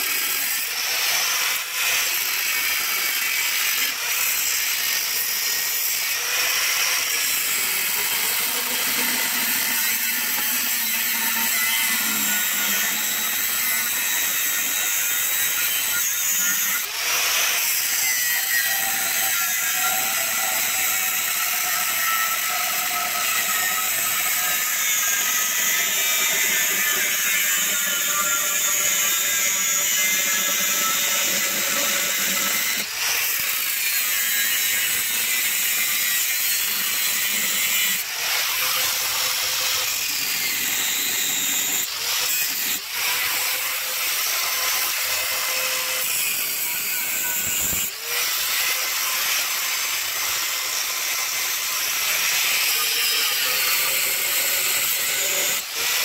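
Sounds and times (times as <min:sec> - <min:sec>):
angle grinder cutting steel: 0:00.0 - 0:56.0.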